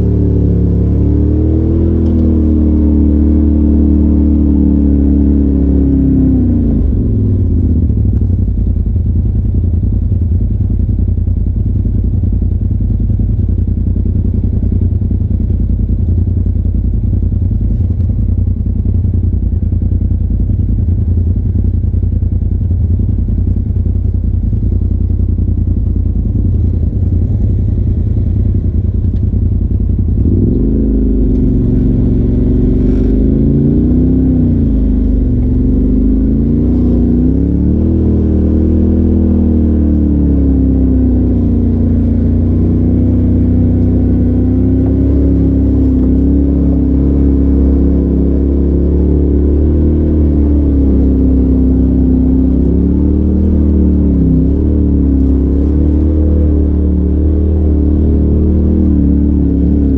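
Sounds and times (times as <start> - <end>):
utility vehicle engine: 0.0 - 59.9.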